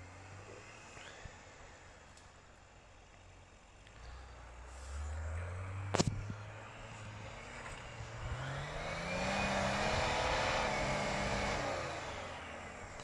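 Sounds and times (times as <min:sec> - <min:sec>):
off-road vehicle engine revving: 0:00.0 - 0:01.9, 0:03.8 - 0:13.0.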